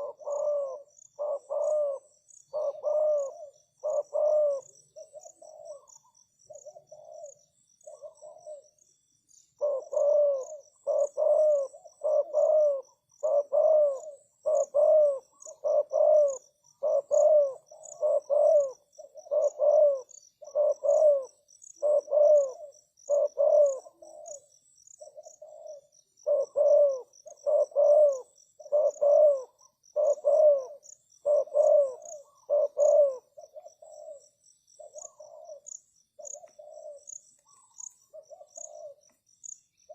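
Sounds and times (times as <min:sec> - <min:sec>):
dove cooing: 0:00.0 - 0:08.8, 0:09.6 - 0:39.1.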